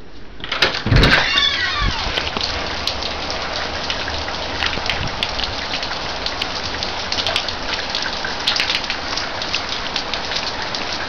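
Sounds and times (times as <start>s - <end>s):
rain falling: 0.4s - 11.0s
raindrops tapping: 0.6s - 11.0s.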